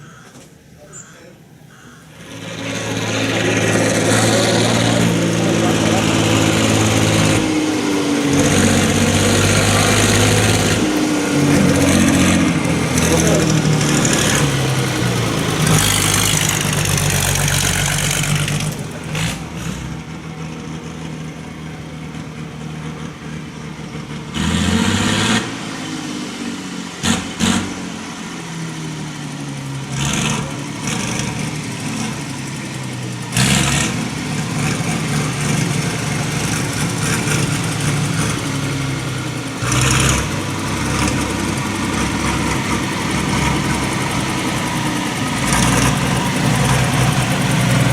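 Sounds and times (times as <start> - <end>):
tractor engines running: 0.0 - 47.9.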